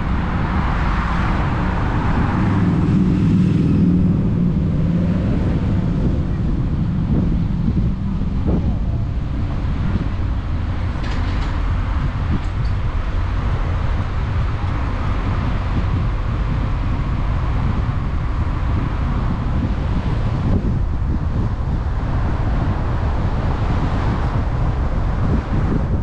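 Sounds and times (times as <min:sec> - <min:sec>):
car tyre and engine rumble: 0:00.0 - 0:26.0
wind buffeting microphone: 0:00.0 - 0:26.0.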